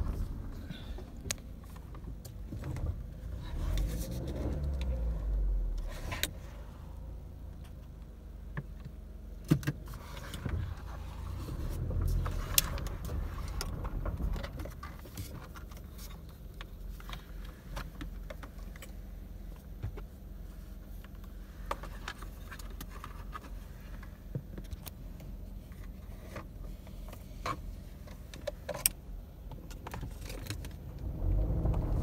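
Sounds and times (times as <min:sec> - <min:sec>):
rattles and clicks in car cabin: 0:00.0 - 0:06.5, 0:07.4 - 0:32.0
car rumbling over bumpy dirt road: 0:00.0 - 0:32.0.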